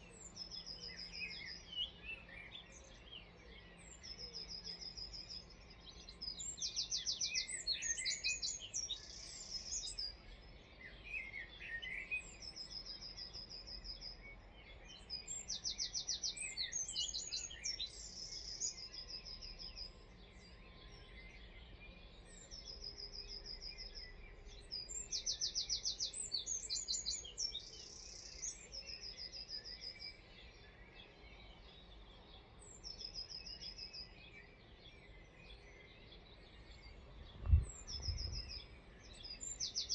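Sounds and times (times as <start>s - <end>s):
bird chirping low: 0.0s - 39.9s
songbird singing: 0.0s - 39.9s
steady outdoor hiss: 0.0s - 39.9s.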